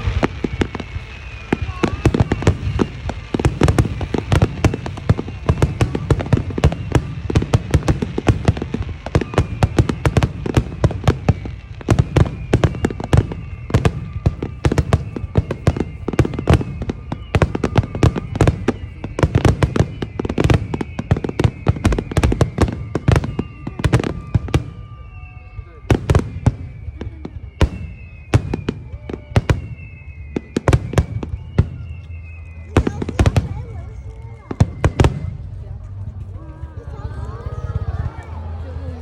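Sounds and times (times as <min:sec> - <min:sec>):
firework bursts: 0:00.0 - 0:35.6.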